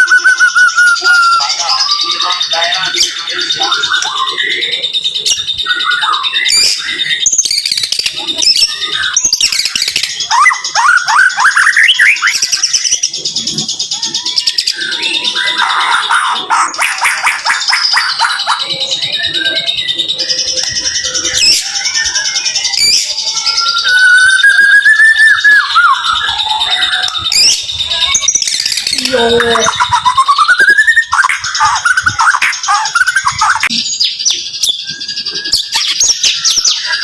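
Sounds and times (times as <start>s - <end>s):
bird trilling: 0.0s - 37.0s.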